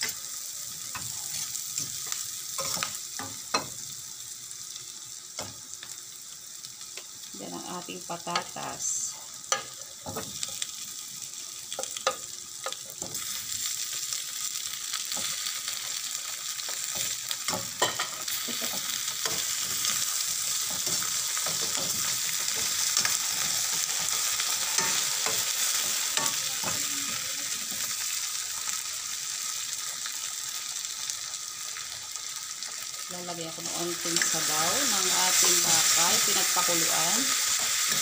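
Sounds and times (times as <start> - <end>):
oil sizzling in a pan: 0.0 - 38.0.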